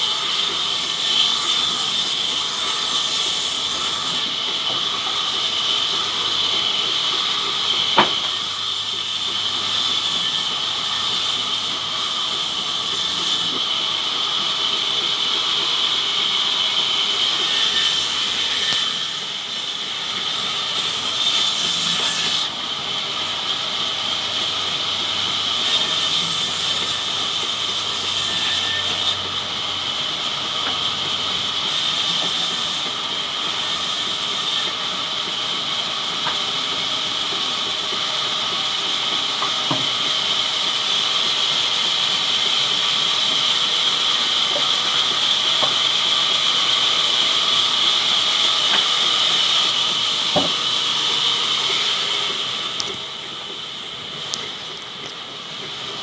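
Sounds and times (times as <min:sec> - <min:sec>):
band saw hiss and whine: 0:00.0 - 0:56.0.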